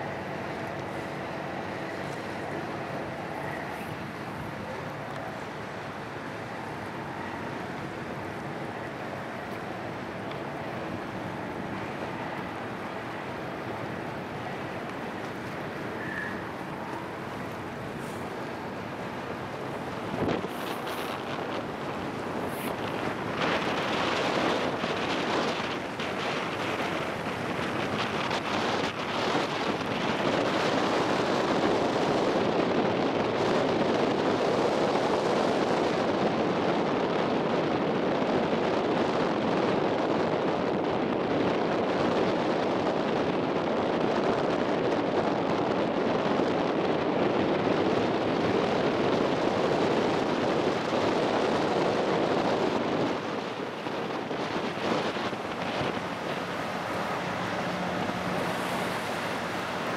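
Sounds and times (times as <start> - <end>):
rush of wind and water: 0.0 - 59.9
wind blowing on microphone: 0.0 - 59.9.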